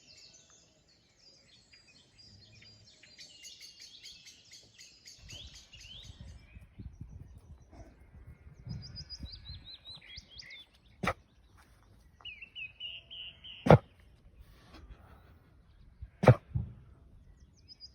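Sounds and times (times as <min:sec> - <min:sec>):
songbirds singing: 0:00.0 - 0:17.9.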